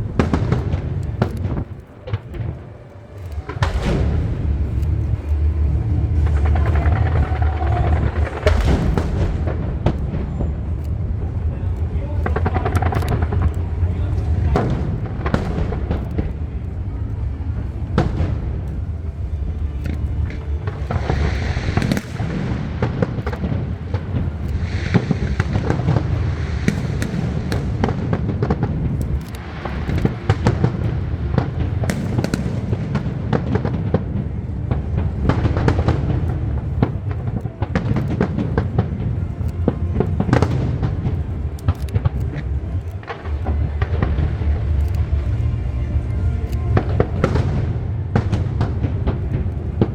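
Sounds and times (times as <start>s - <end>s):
fireworks bangs and booms: 0.0s - 49.9s
fireworks crackling: 0.0s - 49.9s
low rumble: 0.0s - 49.9s.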